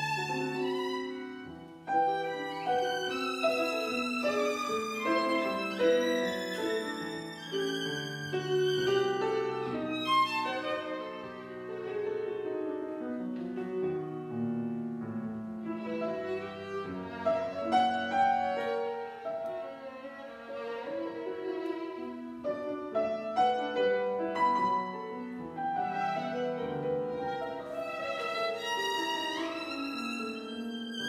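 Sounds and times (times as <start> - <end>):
piano accompaniment: 0.0 - 31.0
violin melody: 0.0 - 31.0.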